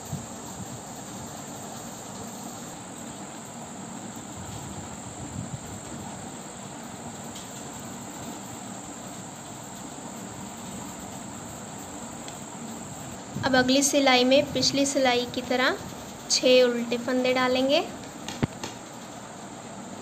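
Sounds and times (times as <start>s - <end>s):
hiss: 0.0s - 20.0s.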